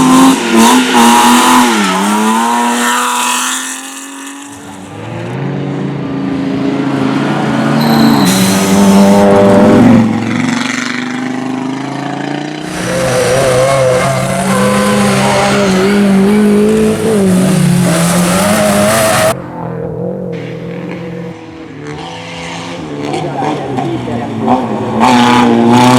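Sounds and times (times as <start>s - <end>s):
rally car engines revving: 0.0s - 25.9s
tyre and road noise: 0.0s - 25.9s.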